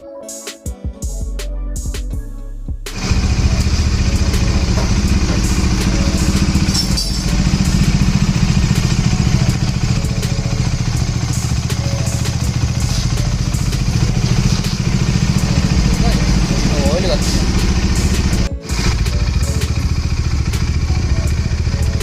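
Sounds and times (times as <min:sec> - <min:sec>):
motorcycle engine running: 0:02.9 - 0:22.0.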